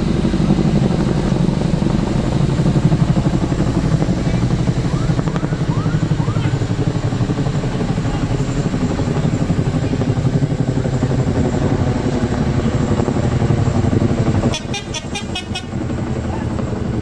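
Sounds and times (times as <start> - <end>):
helicopter rotors beating: 0.0 - 17.0.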